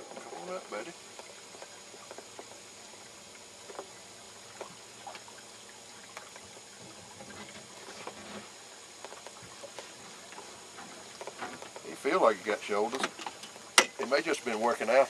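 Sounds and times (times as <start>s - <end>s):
faint water lapping and trickling: 0.0s - 15.0s.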